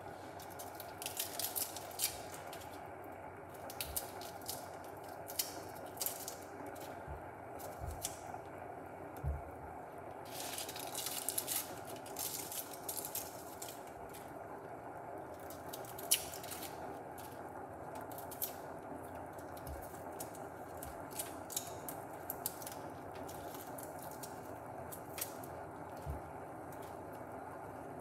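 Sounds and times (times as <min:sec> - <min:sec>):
water heating in saucepan: 0:00.0 - 0:28.0.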